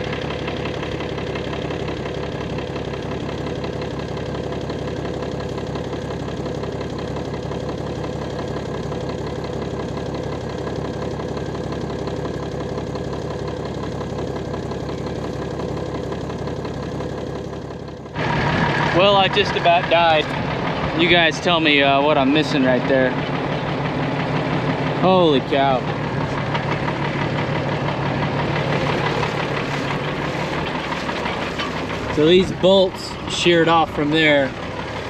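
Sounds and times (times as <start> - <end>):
tractor and baler droning: 0.0 - 35.0.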